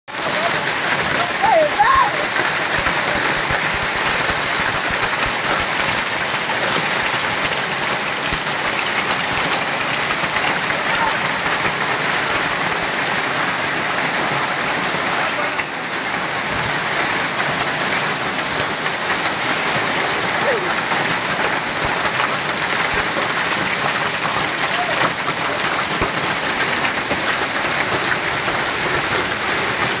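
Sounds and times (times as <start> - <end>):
hail clattering on ground and leaves: 0.1 - 30.0.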